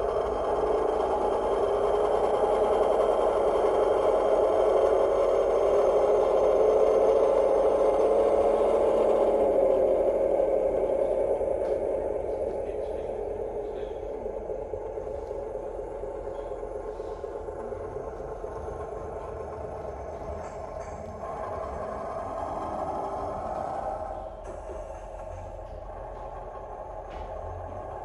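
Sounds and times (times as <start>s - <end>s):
diesel railcar engine sound from speaker: 0.0s - 28.0s.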